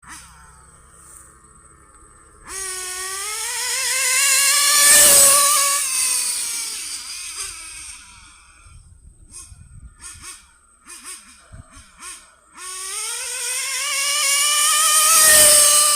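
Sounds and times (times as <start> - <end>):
rc engine revving: 0.0 - 15.9.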